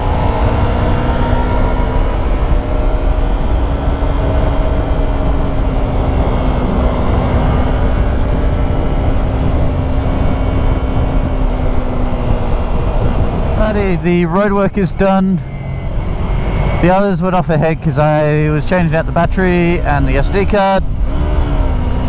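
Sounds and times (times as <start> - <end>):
motorcycle engine cruising: 0.0 - 22.0
wind rush on microphone: 0.0 - 22.0.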